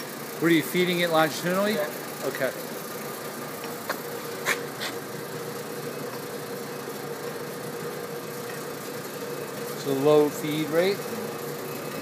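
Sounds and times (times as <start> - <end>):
lathe humming and whining: 0.0 - 12.0.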